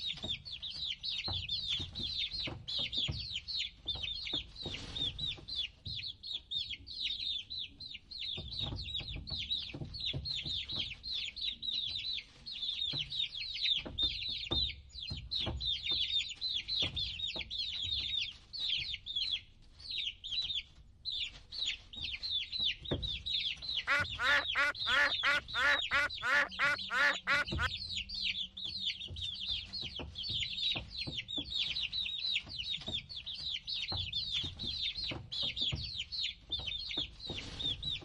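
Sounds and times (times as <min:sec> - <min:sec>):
baby chicks peeping: 0:00.0 - 0:38.0.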